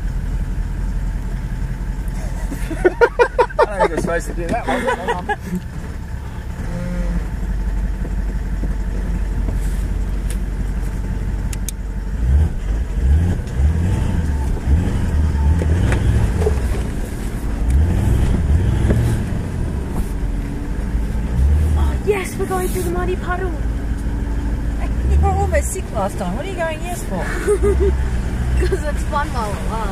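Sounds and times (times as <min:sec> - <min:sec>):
car engine revving on dirt track: 0:00.0 - 0:29.9.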